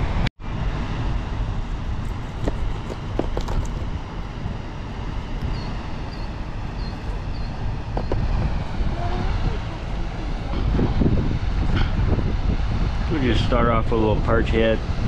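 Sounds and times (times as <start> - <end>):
wind on microphone: 0.0 - 15.0
fast-running river: 0.7 - 15.0.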